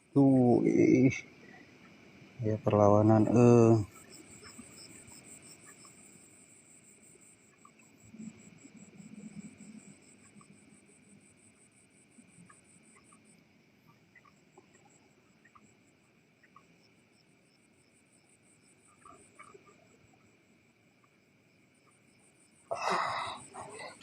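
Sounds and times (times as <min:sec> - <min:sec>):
insects chirping in a trill: 0:00.0 - 0:24.0.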